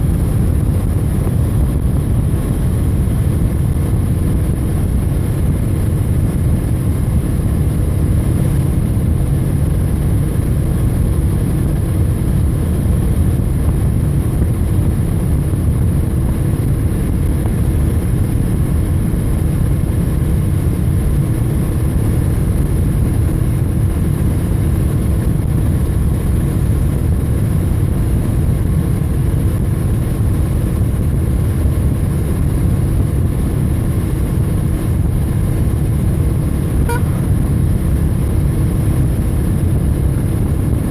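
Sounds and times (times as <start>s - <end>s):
motorcycle engine drone: 0.0s - 40.9s
wind rush on microphone: 0.0s - 40.9s.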